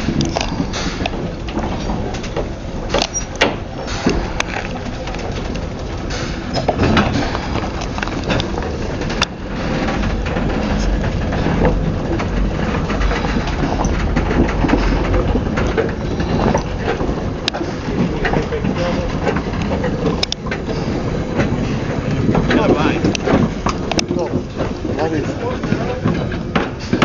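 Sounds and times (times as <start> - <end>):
locomotive rumbling: 0.0 - 27.0
railway carriages clicking and knocking: 0.0 - 27.0.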